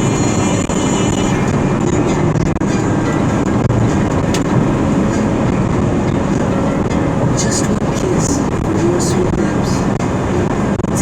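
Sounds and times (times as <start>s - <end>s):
vehicle road and engine noise: 0.0s - 11.0s.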